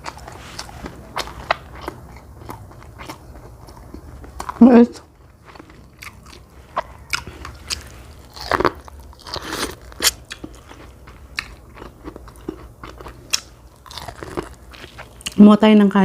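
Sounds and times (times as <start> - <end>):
biting and chewing corn: 0.0 - 15.4.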